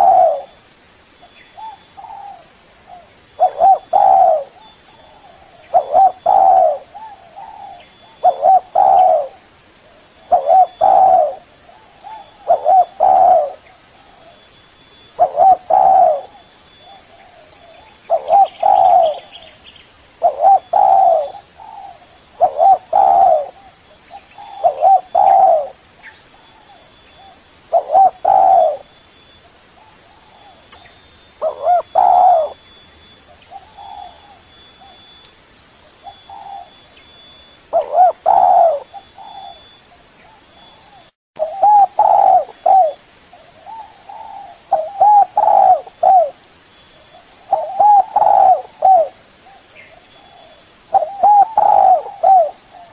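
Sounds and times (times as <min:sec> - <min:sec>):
dove cooing: 0:00.0 - 0:00.6, 0:01.6 - 0:19.6, 0:20.2 - 0:29.0, 0:29.8 - 0:35.2, 0:36.0 - 0:36.9, 0:37.7 - 0:46.4, 0:47.0 - 0:52.9.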